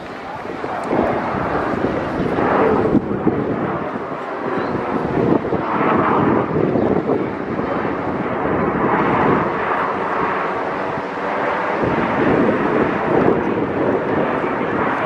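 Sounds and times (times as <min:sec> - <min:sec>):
jet engines rumbling overhead: 0:00.0 - 0:15.0.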